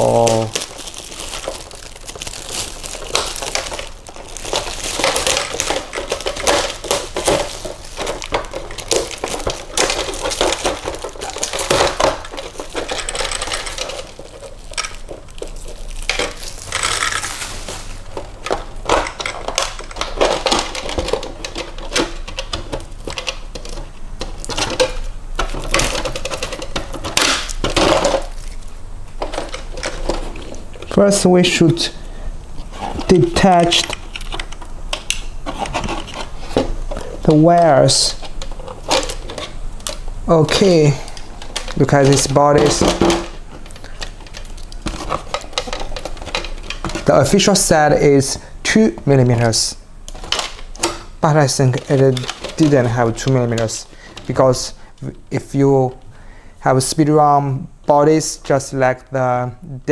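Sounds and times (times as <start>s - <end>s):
plastic parts clicking and rattling: 0.0s - 56.1s
packaging rustling and crinkling: 0.0s - 56.2s.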